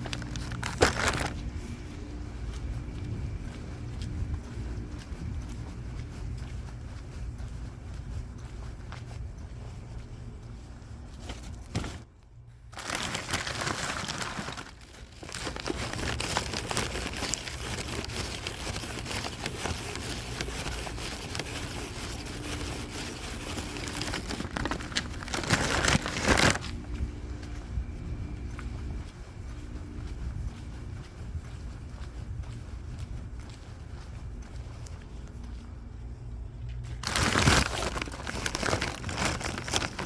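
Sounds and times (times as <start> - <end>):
crinkling and rustling handling: 0.0 - 40.0.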